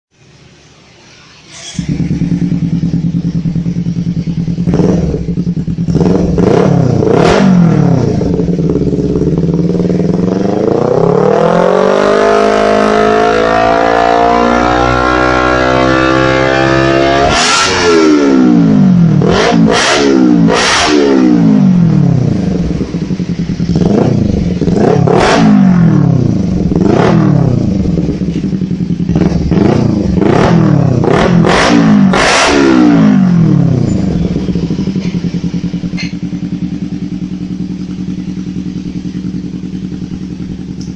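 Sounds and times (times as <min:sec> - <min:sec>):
motorcycle engine revving: 0:00.8 - 0:40.9.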